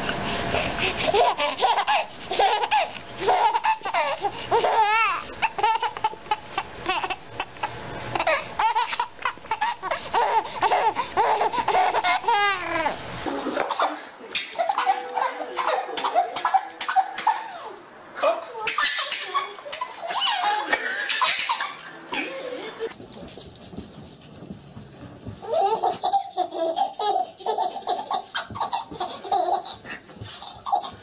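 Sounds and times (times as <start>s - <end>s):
baby laughing: 1.0s - 17.8s, 18.6s - 23.0s, 25.4s - 31.0s.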